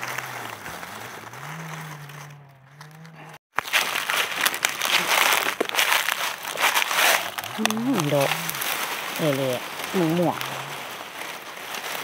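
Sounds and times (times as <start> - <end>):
hands rustling through dry grass: 0.0 - 12.0.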